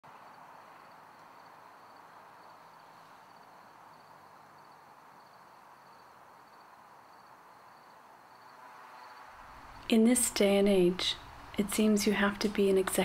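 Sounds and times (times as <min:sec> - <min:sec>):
crickets chirping: 0:00.1 - 0:12.8
low hiss: 0:00.1 - 0:13.0.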